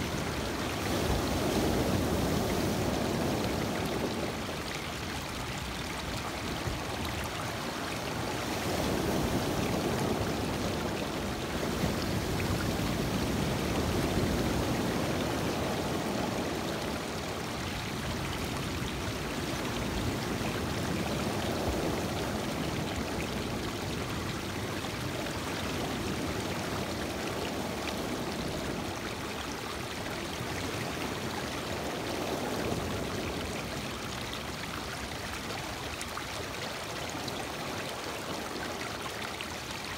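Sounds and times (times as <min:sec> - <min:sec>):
waves washing over stony shore: 0:00.0 - 0:39.9.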